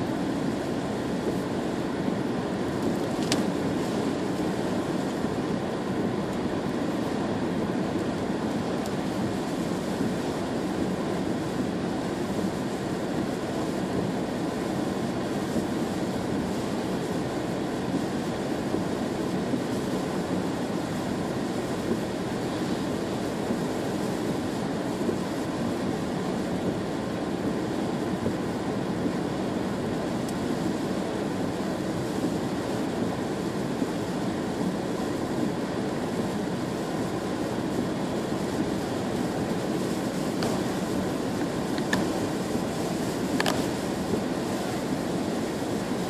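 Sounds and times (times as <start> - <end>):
low engine drone: 0.0 - 46.0
tyres on wet road: 0.0 - 46.0.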